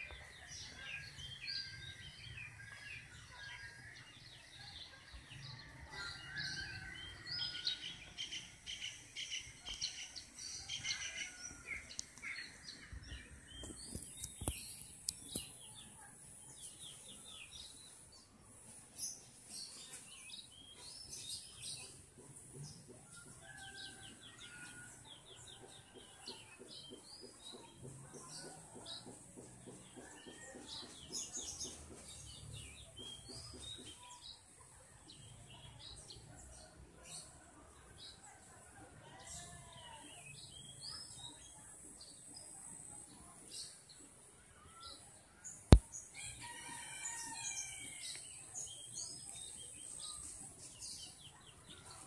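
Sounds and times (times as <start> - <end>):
small birds chirping and twittering: 0.0 - 52.0.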